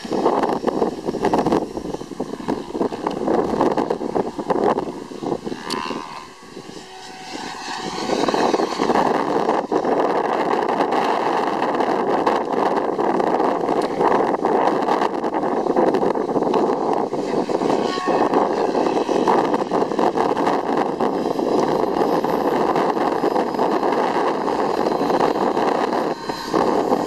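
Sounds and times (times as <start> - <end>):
motor and gear whine: 0.0 - 27.0
rotor blades whooshing: 0.0 - 27.0.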